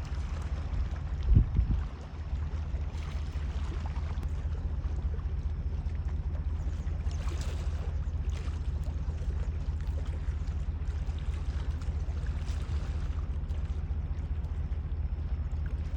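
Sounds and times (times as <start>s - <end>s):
lake water lapping and splashing: 0.0s - 15.9s
steady low rumble: 0.0s - 15.9s
small crackling splashes: 1.8s - 15.9s.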